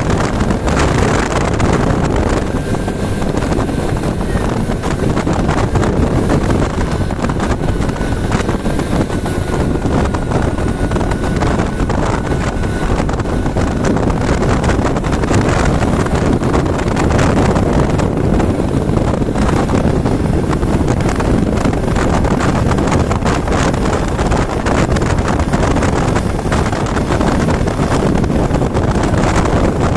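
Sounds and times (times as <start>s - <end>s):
motorcycle engine: 0.0s - 29.9s
road noise: 0.0s - 29.9s
wind rushing over microphone: 0.0s - 29.9s.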